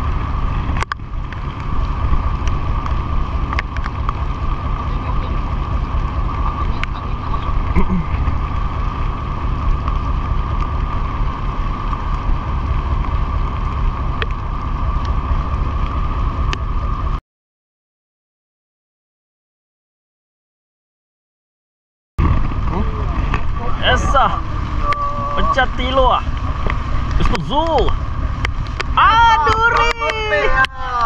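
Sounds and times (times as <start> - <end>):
boat engine rumbling: 0.0 - 17.2, 22.2 - 31.0
steady whine: 0.0 - 17.2, 22.2 - 31.0
wind buffeting microphone: 0.0 - 17.2, 22.2 - 31.0.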